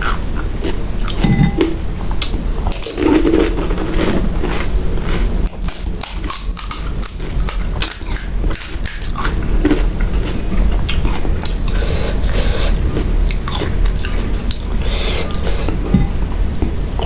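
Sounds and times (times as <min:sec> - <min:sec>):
crisp shells crunching and chewed: 0:00.0 - 0:16.0.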